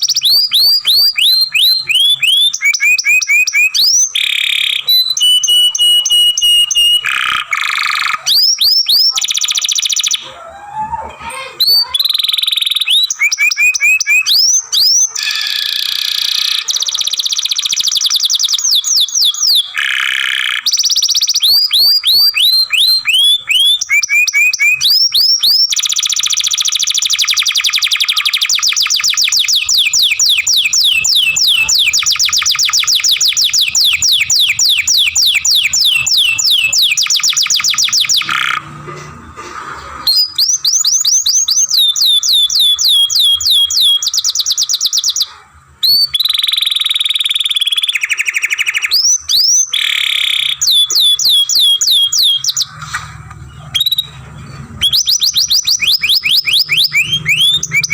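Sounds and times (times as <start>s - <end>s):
canary singing: 0.0s - 57.9s.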